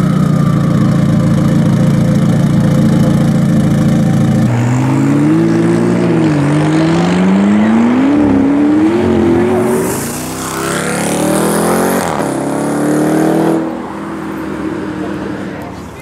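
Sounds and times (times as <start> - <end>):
car engine accelerating hard: 0.0 - 16.0
second vehicle engine: 0.0 - 16.0.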